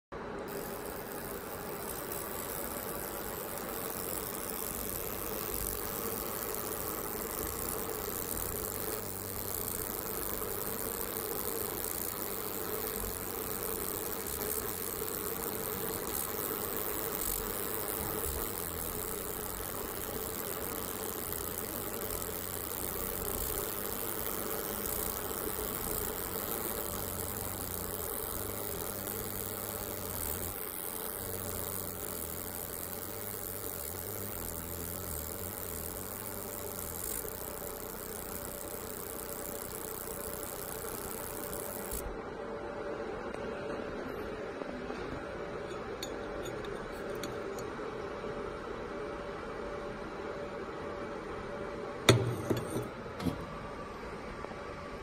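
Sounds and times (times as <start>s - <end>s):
laser marking machine humming: 0.2s - 55.0s.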